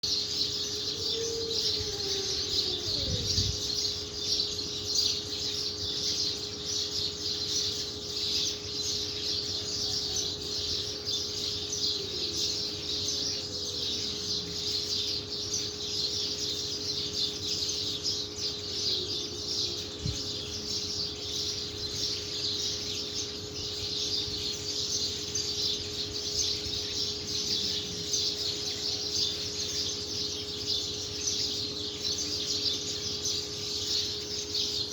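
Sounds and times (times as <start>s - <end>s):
birds chirping: 0.0s - 34.9s
steady hum: 0.0s - 34.9s.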